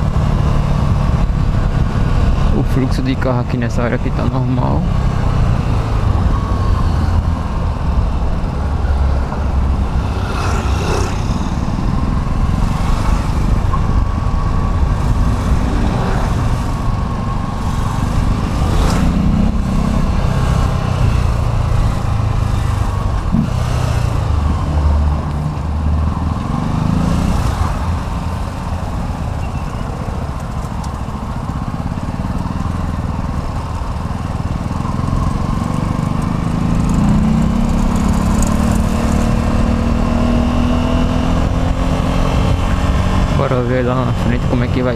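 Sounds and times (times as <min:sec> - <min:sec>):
rumbling road noise: 0:00.0 - 0:44.9
vehicles passing: 0:00.0 - 0:44.9.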